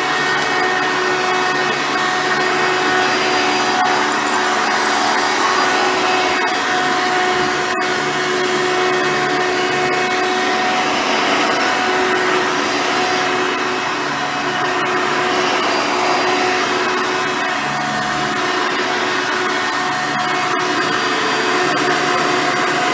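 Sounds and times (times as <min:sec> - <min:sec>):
vacuum cleaner motor whine: 0:00.0 - 0:22.9.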